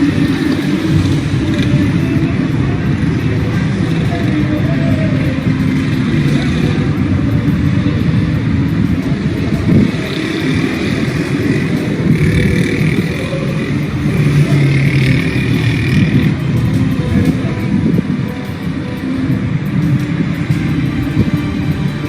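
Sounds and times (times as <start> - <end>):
car engines running: 0.0 - 22.0.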